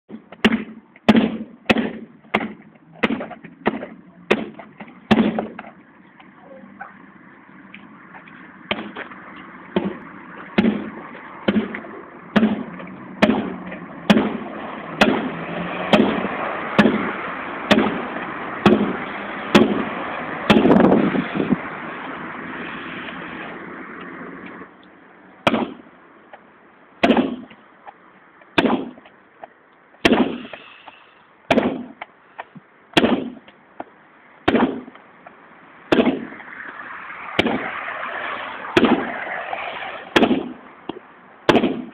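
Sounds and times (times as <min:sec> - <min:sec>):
steady background noise: 0:00.1 - 0:41.9.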